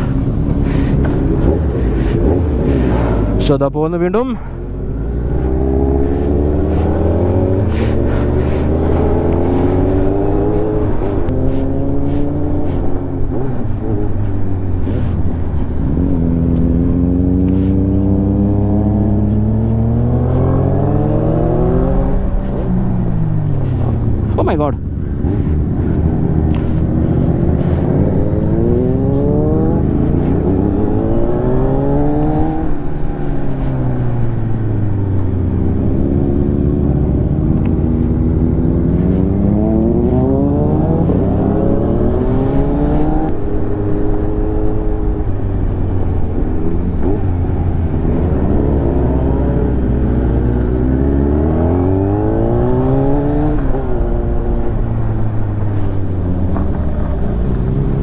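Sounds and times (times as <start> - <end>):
motorcycle engine accelerating: 0.0 - 3.7, 4.5 - 58.0.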